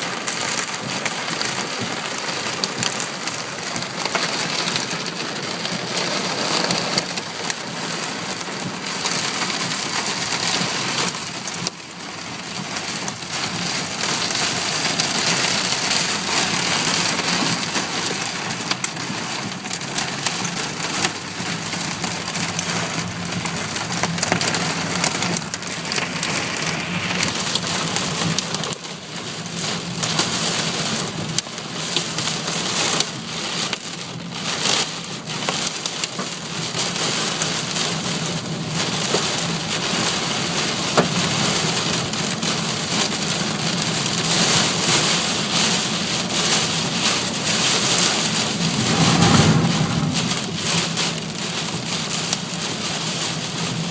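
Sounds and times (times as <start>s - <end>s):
heavy rain pelting a car: 0.0s - 53.9s.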